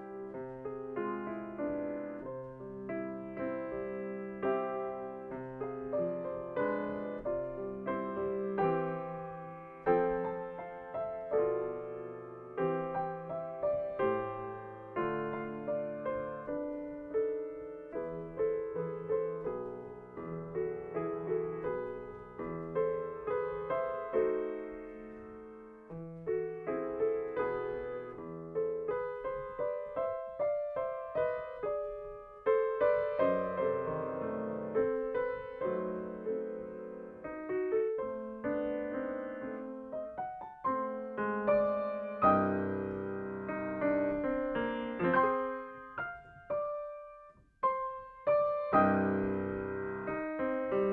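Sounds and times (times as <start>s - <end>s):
solo grand piano playing: 0.0s - 50.9s.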